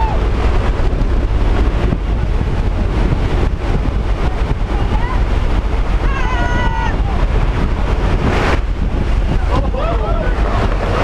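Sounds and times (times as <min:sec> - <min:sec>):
plane engine running: 0:00.0 - 0:11.0
wind rushing through open door: 0:00.0 - 0:11.0.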